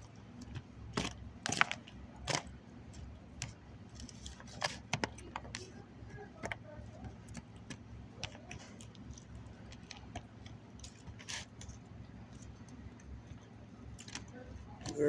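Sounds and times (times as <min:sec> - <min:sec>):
chewing clicks and smacks: 0:00.0 - 0:15.0
faint low hum: 0:00.0 - 0:15.0.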